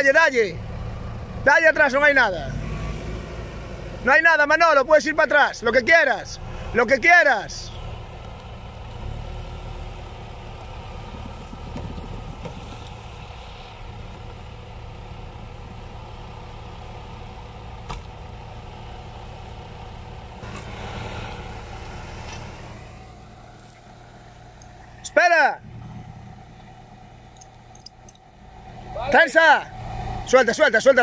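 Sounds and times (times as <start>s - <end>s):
off-road vehicle engine at low revs: 0.0s - 31.0s.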